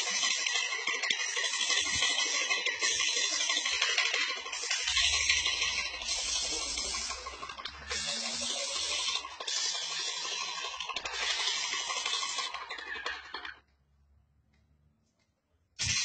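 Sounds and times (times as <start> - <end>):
paint sprayer hissing: 0.0 - 13.5, 15.8 - 16.0.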